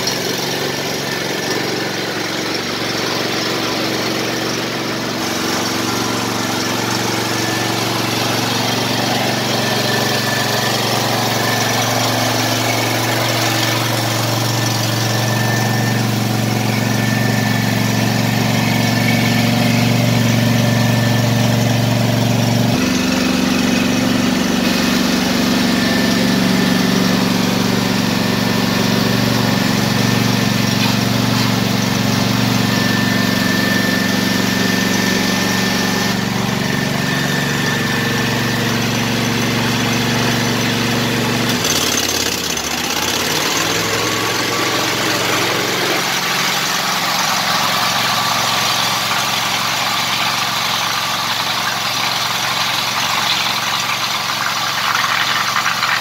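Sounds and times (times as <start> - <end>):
lawn tractor engine idling: 0.0 - 56.0.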